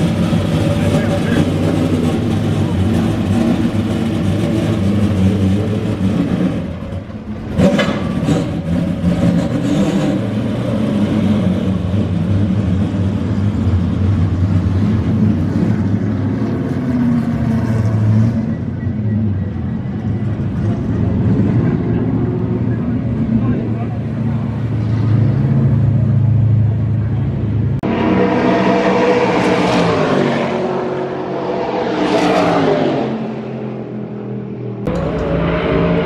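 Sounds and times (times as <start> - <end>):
race car engines idling and revving: 0.0 - 36.0.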